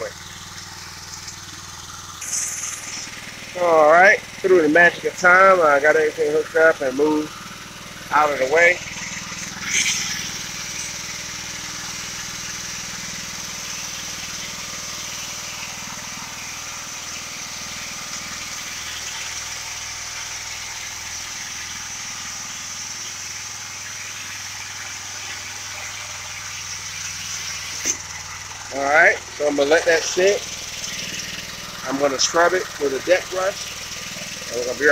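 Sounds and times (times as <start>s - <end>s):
pressure washer spraying: 0.0s - 34.9s.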